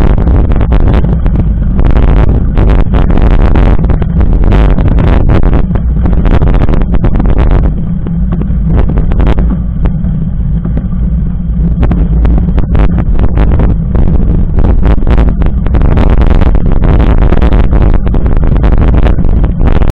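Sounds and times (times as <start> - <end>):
wind and vibration rumble: 0.0 - 19.9.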